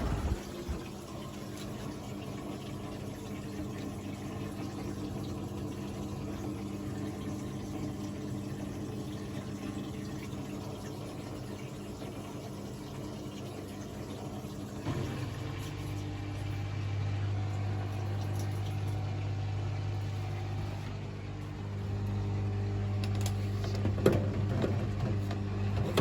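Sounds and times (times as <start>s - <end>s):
water running: 0.0s - 16.8s, 17.4s - 26.0s
washing machine hum: 0.0s - 26.0s.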